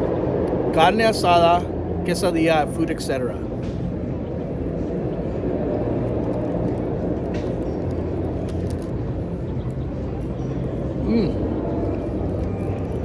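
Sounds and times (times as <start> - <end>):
low rumbling: 0.0 - 13.0.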